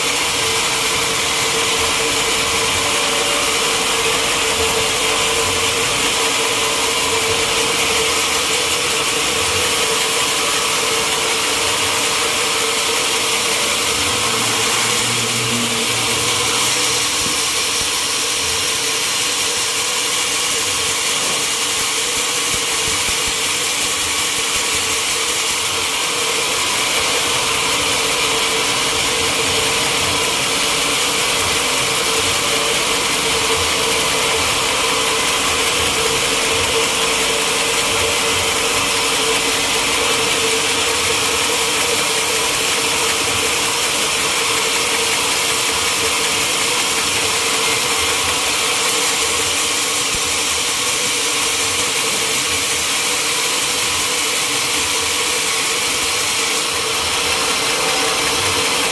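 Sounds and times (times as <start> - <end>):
sawmill machinery humming: 0.0 - 58.9.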